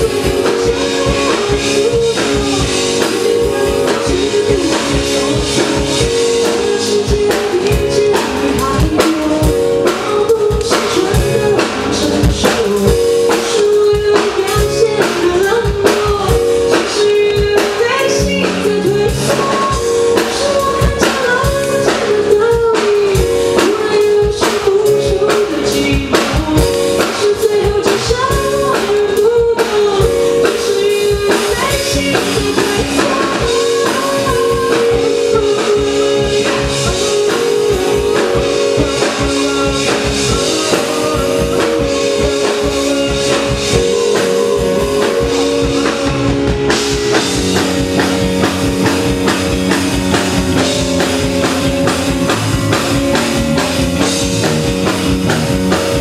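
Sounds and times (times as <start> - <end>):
bass guitar: 0.0 - 56.0
drum kit: 0.0 - 56.0
keyboard: 0.0 - 56.0
person singing: 0.0 - 56.0.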